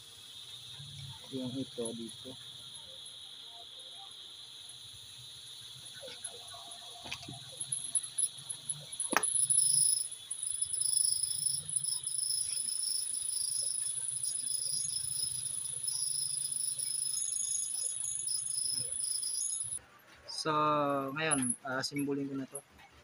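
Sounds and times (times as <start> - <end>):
insects chirring: 0.0 - 19.8, 20.4 - 22.6.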